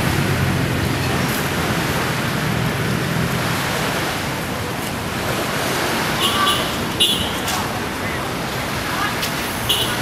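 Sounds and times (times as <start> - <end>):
sea waves washing onto sand: 0.0 - 10.0
wind: 0.0 - 10.0.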